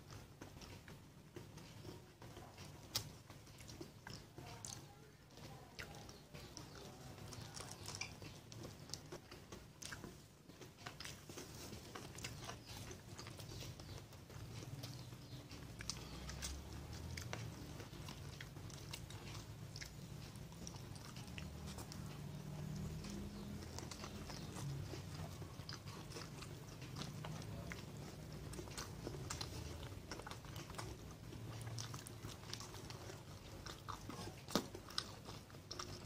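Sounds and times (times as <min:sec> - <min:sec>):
chewing and biting: 0:00.0 - 0:36.0.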